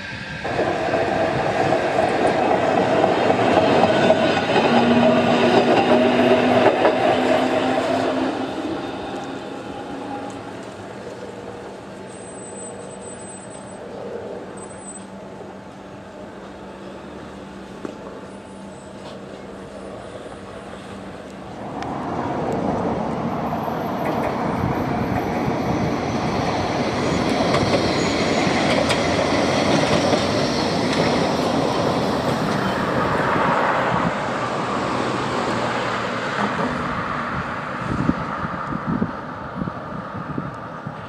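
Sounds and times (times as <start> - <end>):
tram passing on rails: 0.0 - 41.0.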